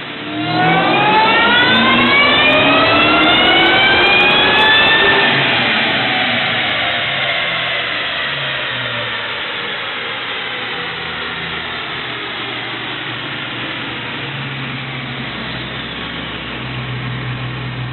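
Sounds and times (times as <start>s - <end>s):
car engine winding down: 0.0s - 17.9s
supercharger whine: 0.0s - 17.9s.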